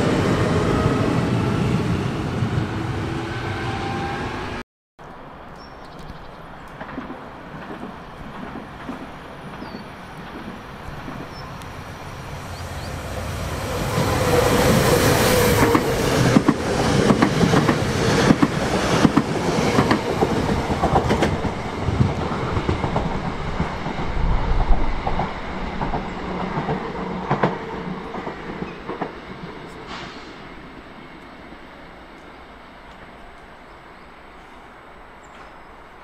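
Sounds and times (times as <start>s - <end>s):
train rumble: 6.4s - 36.0s.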